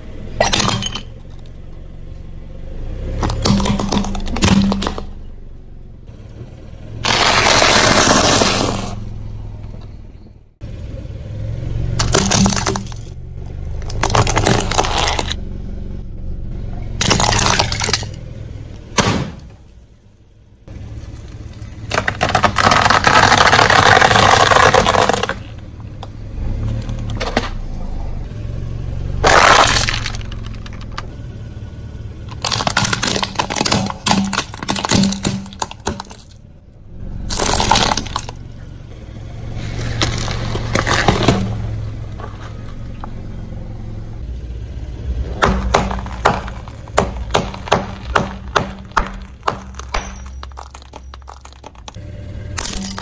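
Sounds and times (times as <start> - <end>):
car tyre crushing objects: 0.0 - 10.4, 11.8 - 15.4, 16.8 - 43.9, 44.5 - 53.0
car running hum: 0.0 - 53.0.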